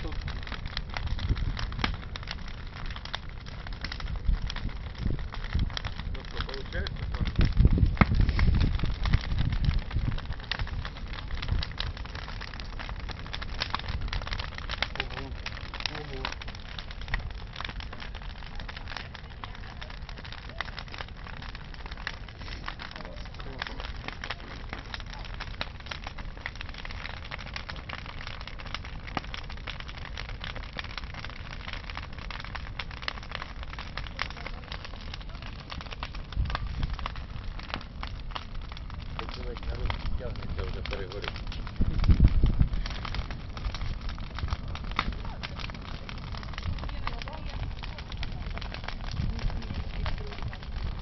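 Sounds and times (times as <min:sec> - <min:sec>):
bonfire crackling and popping: 0:00.0 - 0:51.0
steady low rumble: 0:00.0 - 0:51.0.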